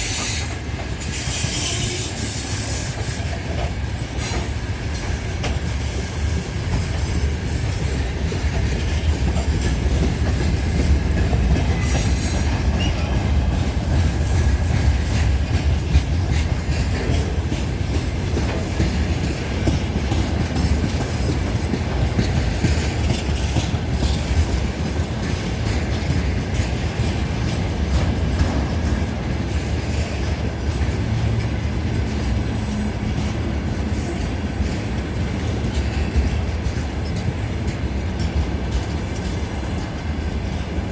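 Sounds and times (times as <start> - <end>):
diesel locomotive rumble: 0.0 - 40.9.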